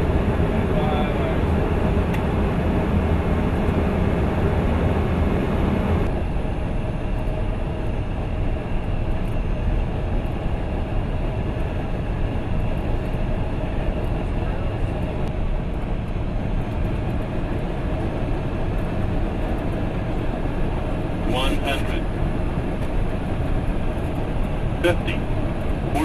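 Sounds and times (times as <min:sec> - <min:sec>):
cockpit airflow and engine noise: 0:00.0 - 0:26.0.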